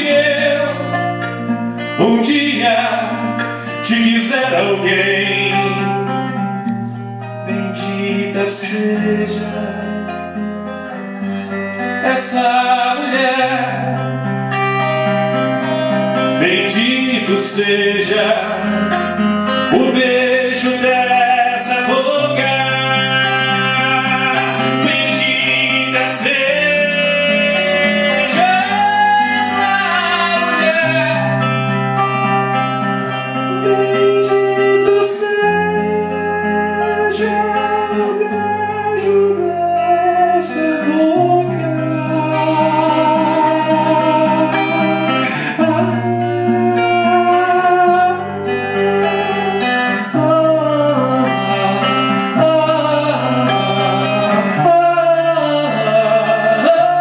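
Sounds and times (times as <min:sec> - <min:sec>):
acoustic guitar: 0:00.0 - 0:57.0
sliding melody line: 0:00.0 - 0:57.0.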